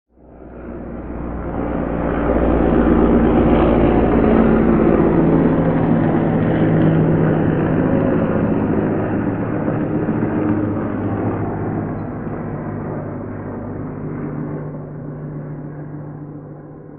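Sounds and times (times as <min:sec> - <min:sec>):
helicopter passing overhead: 0:00.1 - 0:16.9.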